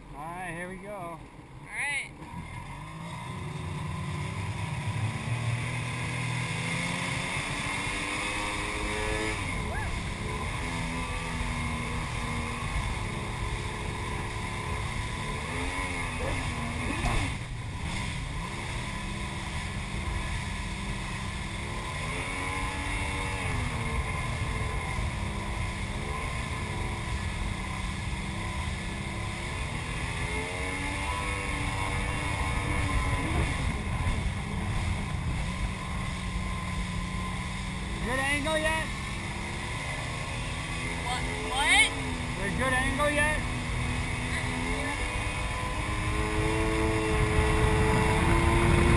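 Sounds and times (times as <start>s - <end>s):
jet ski engine running: 0.0s - 48.9s
wind: 0.0s - 48.9s.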